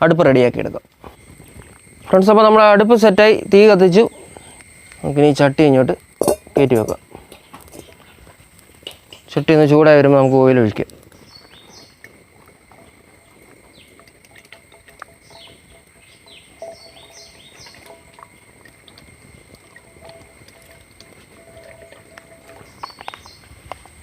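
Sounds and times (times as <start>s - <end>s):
birds chirping: 1.2s - 23.6s.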